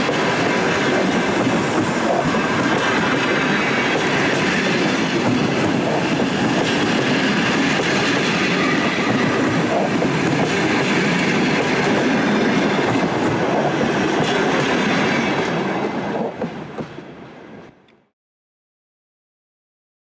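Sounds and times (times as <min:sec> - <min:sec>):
train wheels clattering on rails: 0:00.0 - 0:17.8.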